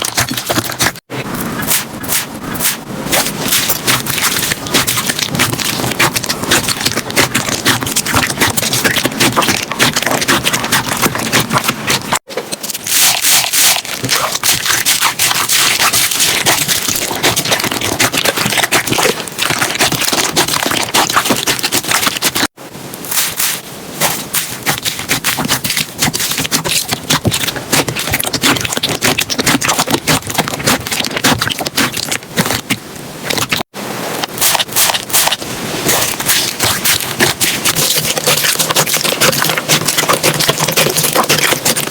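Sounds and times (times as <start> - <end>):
slime wet squelches: 0.0 - 41.9.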